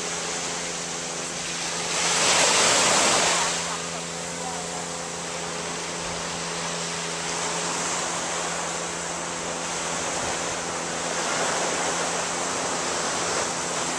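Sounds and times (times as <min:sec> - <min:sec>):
low motor hum: 0:00.0 - 0:13.9
rushing shoreline noise: 0:00.0 - 0:13.9.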